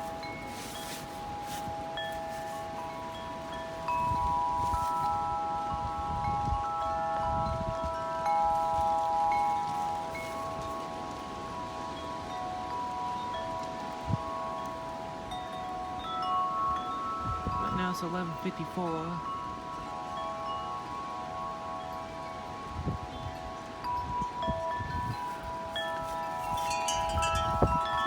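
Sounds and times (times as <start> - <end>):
wind rumbling on microphone: 0.0 - 18.6, 19.2 - 28.0
wind chimes ringing: 0.0 - 28.0.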